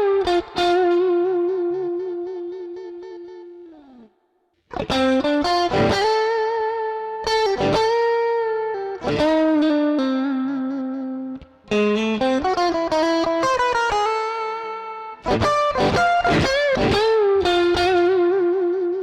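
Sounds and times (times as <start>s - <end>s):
overdriven electric guitar lead: 0.0s - 4.1s, 4.7s - 19.0s.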